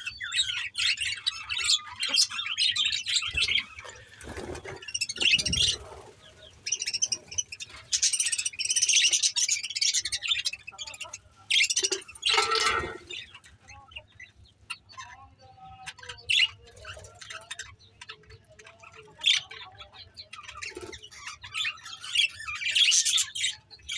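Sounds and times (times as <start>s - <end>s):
budgerigars chirping and chattering: 0.0s - 23.9s.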